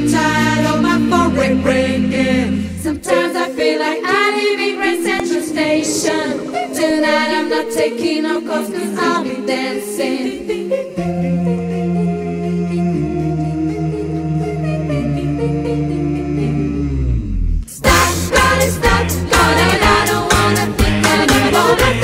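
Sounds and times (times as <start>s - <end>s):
a cappella choral singing: 0.0s - 22.0s.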